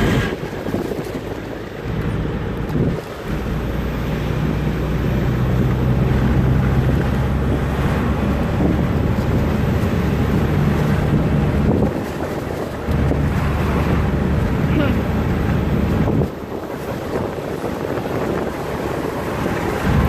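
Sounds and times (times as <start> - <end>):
car engine hum: 0.0 - 20.0
road and wind noise: 0.0 - 20.0.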